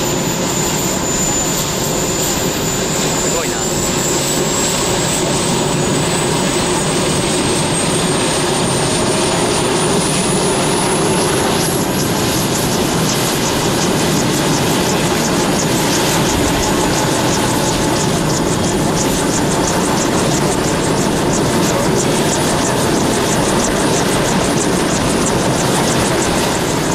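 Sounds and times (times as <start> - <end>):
helicopter turbine whine: 0.0 - 26.9
rotor blades beating: 0.0 - 26.9.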